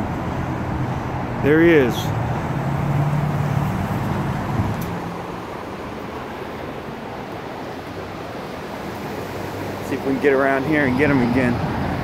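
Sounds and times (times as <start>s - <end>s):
road noise rushing: 0.0s - 12.0s
vehicle engine hum: 0.0s - 12.0s.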